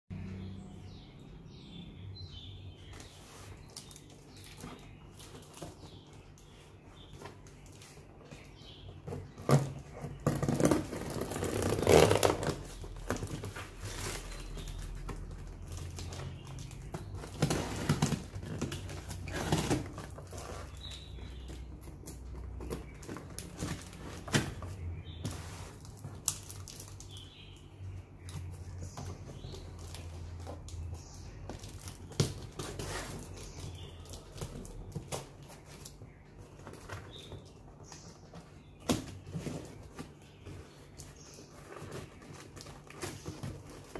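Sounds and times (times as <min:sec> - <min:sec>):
cardboard rustling and knocking: 0:02.9 - 0:27.2, 0:28.3 - 0:43.9.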